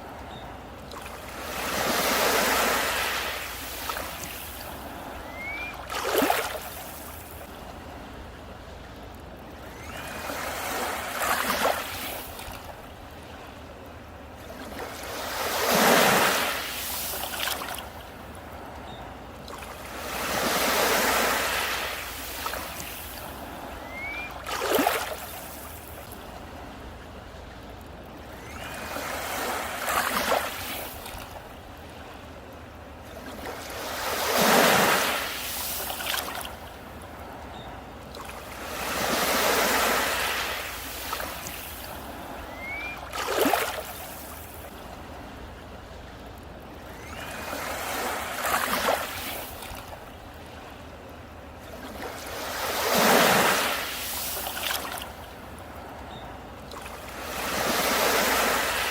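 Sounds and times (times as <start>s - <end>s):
sea waves breaking on beach: 0.0s - 8.5s, 9.5s - 58.9s.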